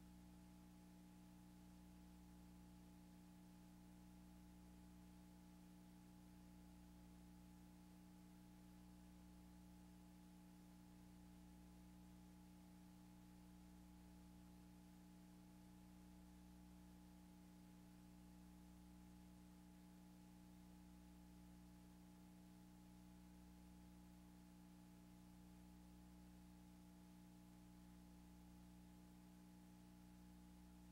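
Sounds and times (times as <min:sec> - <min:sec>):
faint electrical hum: 0:00.0 - 0:30.9.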